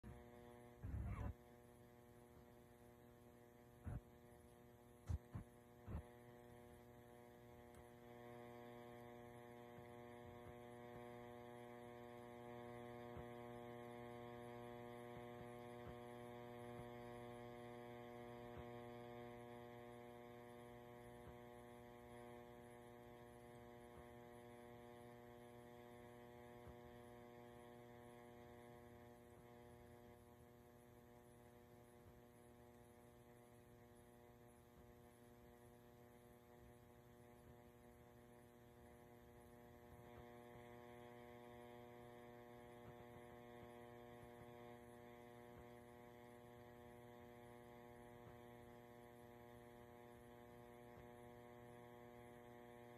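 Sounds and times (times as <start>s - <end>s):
faint low hum: 0.0s - 52.9s.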